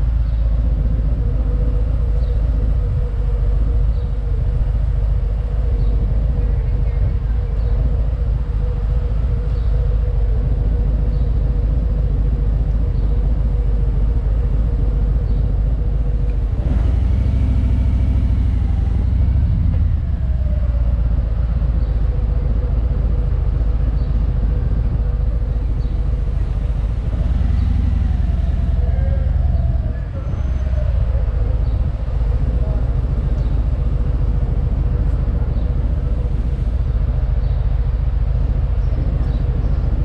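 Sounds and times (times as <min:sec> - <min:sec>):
motorcycle engine idling and revving: 0:00.0 - 0:40.0.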